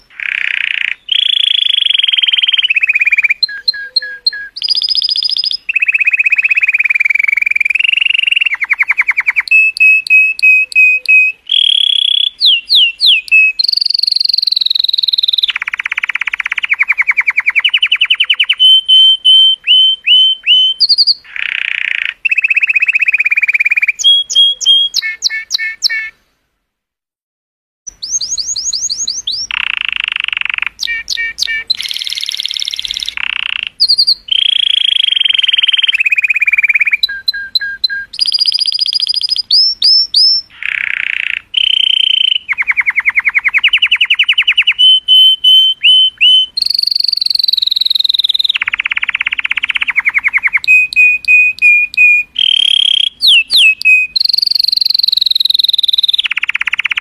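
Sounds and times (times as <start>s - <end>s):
canary singing: 0.0s - 26.2s, 27.9s - 57.0s.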